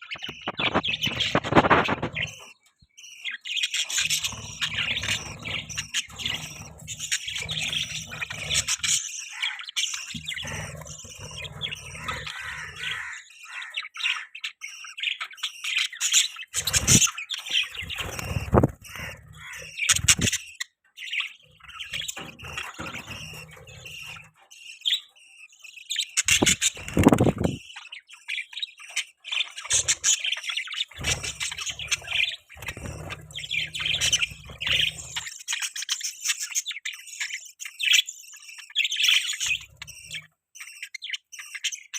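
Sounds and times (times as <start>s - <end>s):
budgerigars chirping: 0.0s - 41.9s.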